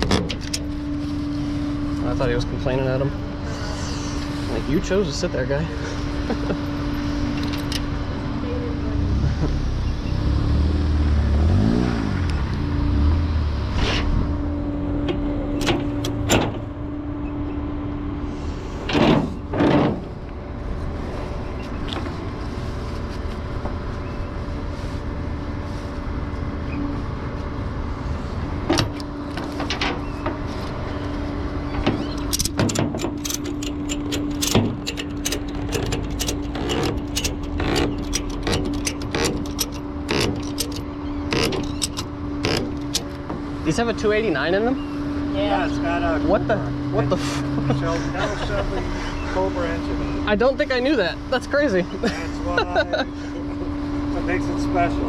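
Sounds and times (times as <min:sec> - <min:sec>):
vehicle engine idling: 0:00.0 - 0:11.7, 0:12.3 - 0:55.0.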